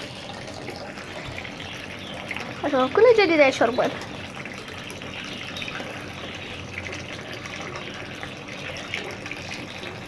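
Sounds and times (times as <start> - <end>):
water running into a container: 0.0 - 10.0.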